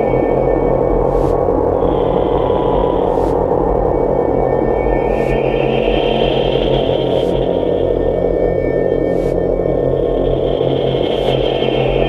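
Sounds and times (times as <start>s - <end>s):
synthesizer ambient drone: 0.0s - 12.0s.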